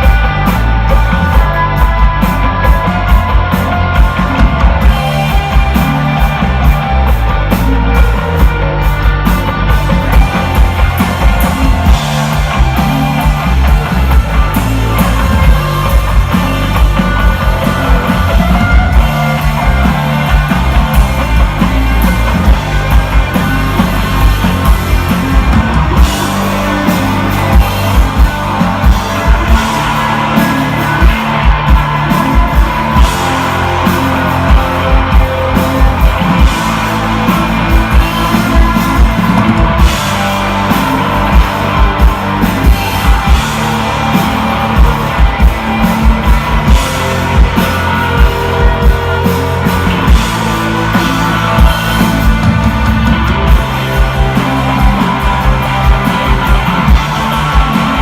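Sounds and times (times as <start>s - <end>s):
bass guitar: 0.0s - 58.0s
distorted electric guitar: 0.0s - 58.0s
steady drum beat: 0.0s - 58.0s.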